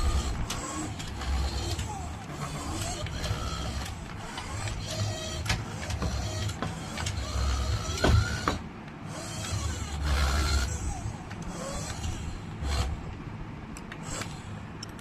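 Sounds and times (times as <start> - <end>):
toy car electric motor whirring: 0.0 - 13.2, 13.9 - 15.0
clicks: 0.0 - 15.0.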